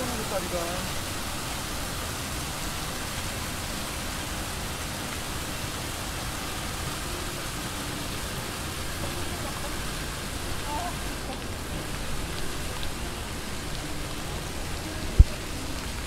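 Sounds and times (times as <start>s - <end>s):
rain falling on pavement: 0.0s - 16.0s.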